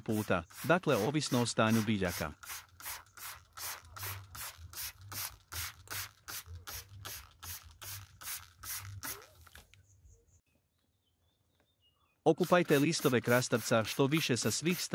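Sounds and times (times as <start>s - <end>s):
spray bottle squirting: 0.0s - 9.6s, 12.4s - 14.9s.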